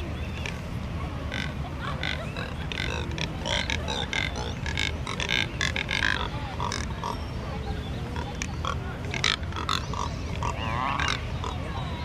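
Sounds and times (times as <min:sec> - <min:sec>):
cormorants grunting calls: 0:01.3 - 0:07.3, 0:08.1 - 0:11.8.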